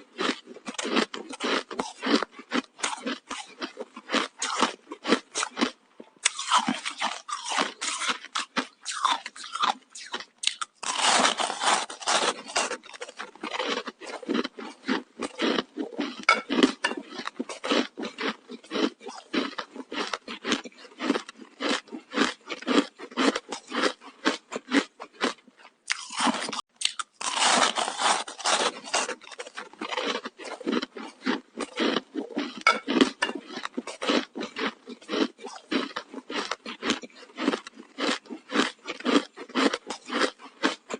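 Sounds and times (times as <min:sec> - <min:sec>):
ice crunching between teeth: 0:00.0 - 0:40.9.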